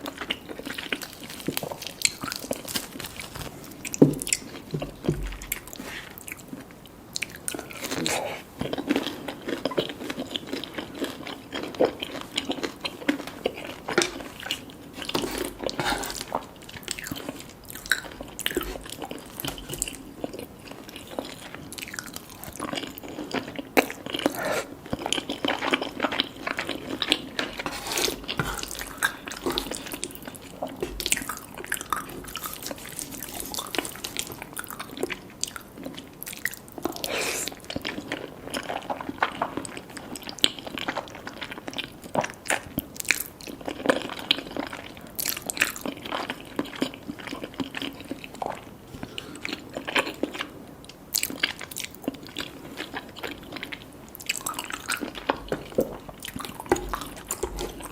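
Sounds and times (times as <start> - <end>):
chewing and biting food: 0.0 - 57.9.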